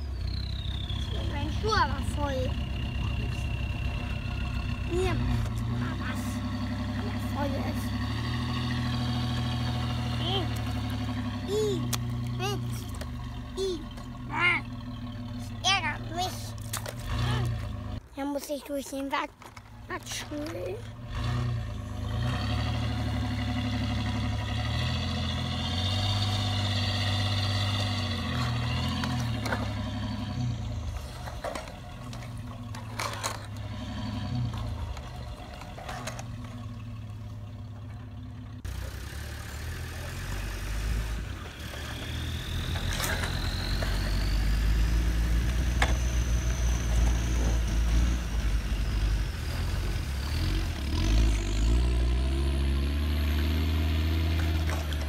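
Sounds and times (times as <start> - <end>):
engine revving: 0.0 - 18.0, 20.0 - 55.0
deeper louder engine: 0.0 - 18.1, 19.6 - 55.0.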